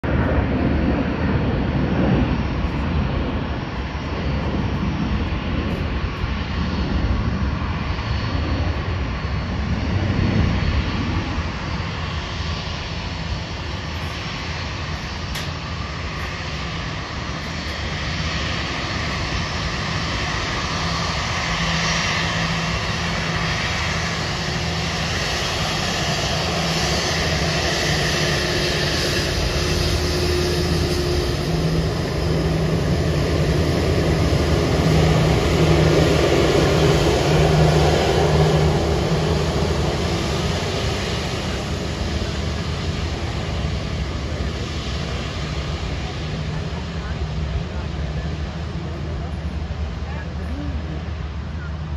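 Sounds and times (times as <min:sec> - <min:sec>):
jet engine whine and rumble: 0:00.0 - 0:51.9.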